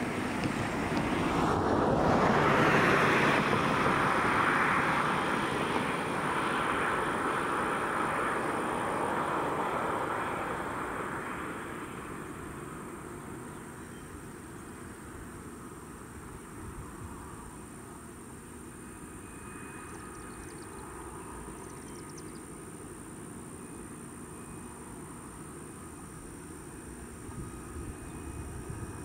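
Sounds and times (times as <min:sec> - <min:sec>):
helicopter rotors and engines: 0:00.0 - 0:29.0.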